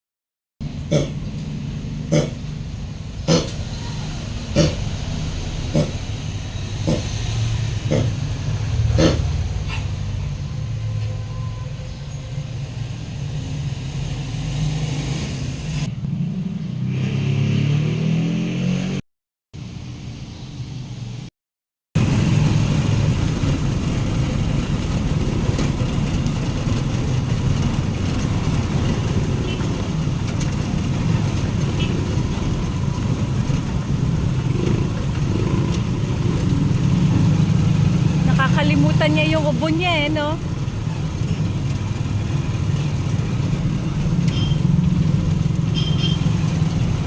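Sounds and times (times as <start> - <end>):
vehicle engine running: 0.6 - 14.5, 22.0 - 47.0.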